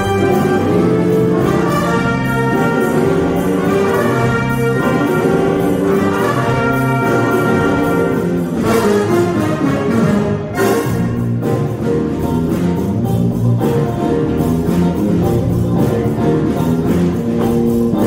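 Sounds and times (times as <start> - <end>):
jazz big band playing: 0.0 - 18.0.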